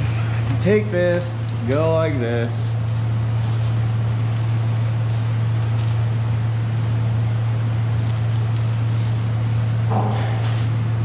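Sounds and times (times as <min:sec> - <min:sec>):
steady low hum: 0:00.0 - 0:11.0
plastic sheeting crinkling: 0:00.4 - 0:10.8.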